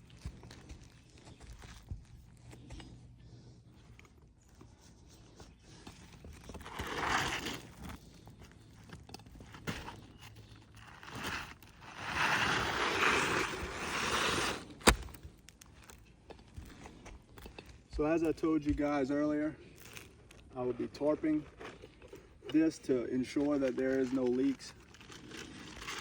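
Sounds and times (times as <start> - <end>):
scraping and rustling on a roof: 0.0 - 17.9, 19.6 - 26.0.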